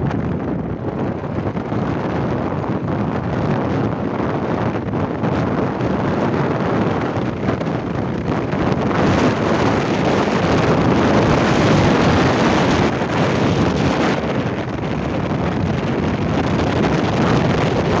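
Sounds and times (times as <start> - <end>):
vehicle road noise: 0.0 - 18.0
wind noise on microphone: 0.0 - 18.0.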